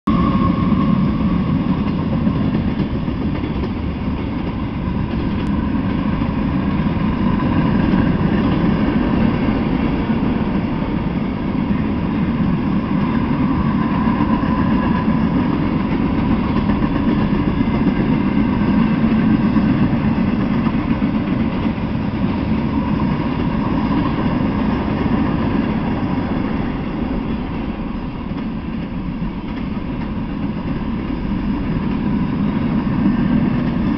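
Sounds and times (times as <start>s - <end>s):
freight train wheels rumbling: 0.0s - 33.9s
diesel locomotive passing: 0.1s - 33.9s.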